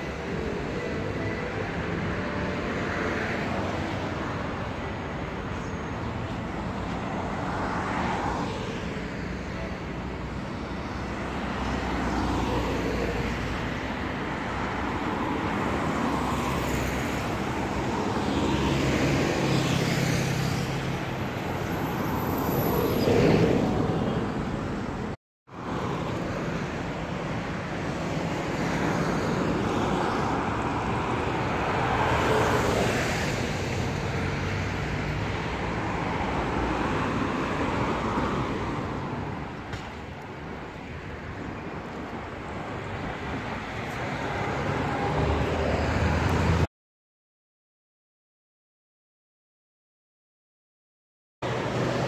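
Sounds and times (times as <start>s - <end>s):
vehicles driving past: 0.0s - 46.7s, 51.4s - 52.0s.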